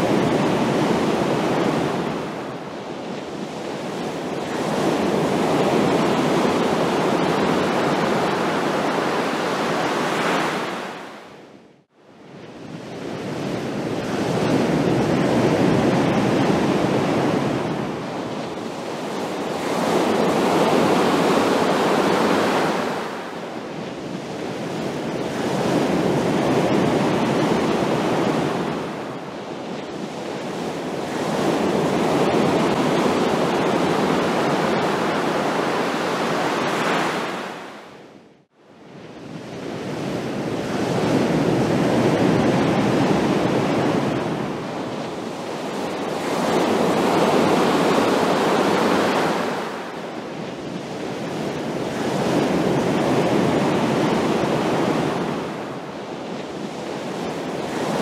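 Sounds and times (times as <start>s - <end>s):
ocean waves crashing: 0.0s - 11.4s, 12.6s - 38.1s, 38.7s - 58.0s.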